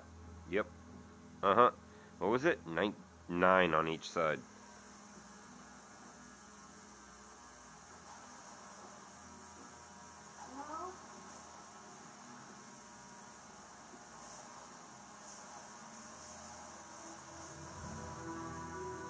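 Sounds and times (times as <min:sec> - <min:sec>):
faint background hiss: 0:00.0 - 0:19.0
low electrical hum: 0:00.0 - 0:19.0.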